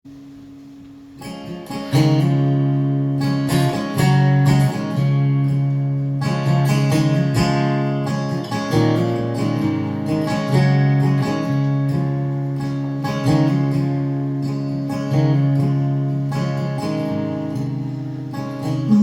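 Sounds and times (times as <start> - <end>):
acoustic guitar strumming: 0.1 - 19.0.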